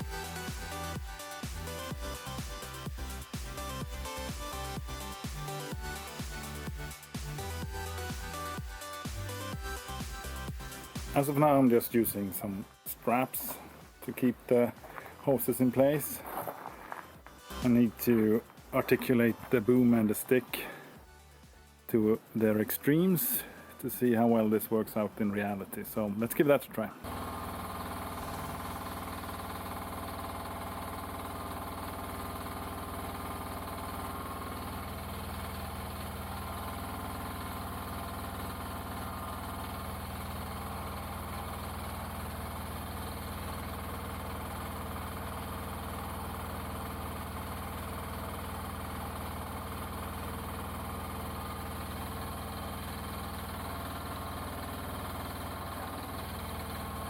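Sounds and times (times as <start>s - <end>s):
mini excavator engine running: 0.0s - 21.0s, 27.0s - 57.0s.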